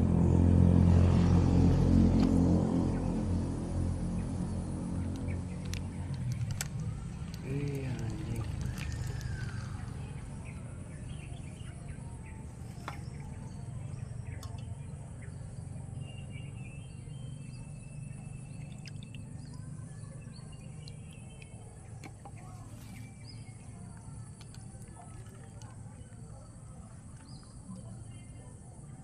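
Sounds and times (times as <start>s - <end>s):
steady low rumble: 0.0s - 28.5s.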